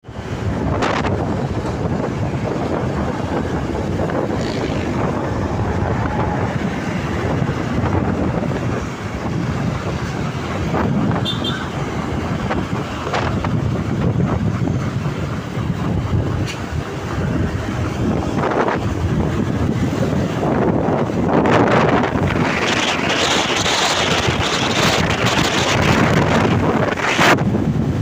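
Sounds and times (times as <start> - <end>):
rumble of road vehicles: 0.0 - 28.0
wind buffeting microphone: 0.0 - 28.0.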